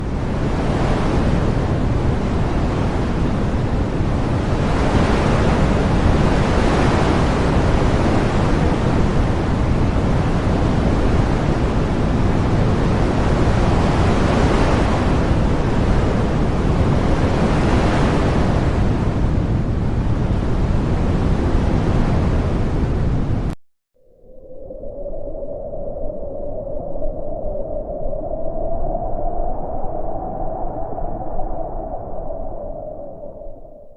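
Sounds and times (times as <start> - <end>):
wind blowing in gusts: 0.0 - 33.9.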